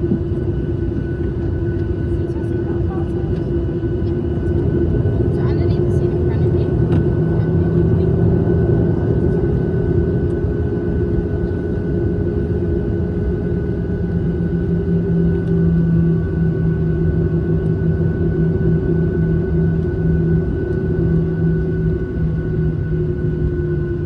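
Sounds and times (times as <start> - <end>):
airliner engines droning: 0.0 - 24.0.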